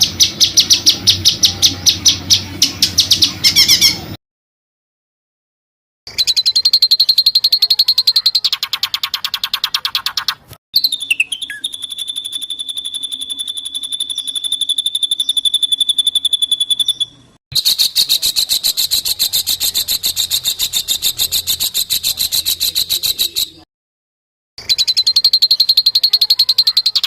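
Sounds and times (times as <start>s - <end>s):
songbird rattling trill: 0.0s - 4.0s, 6.1s - 23.6s, 24.6s - 27.0s.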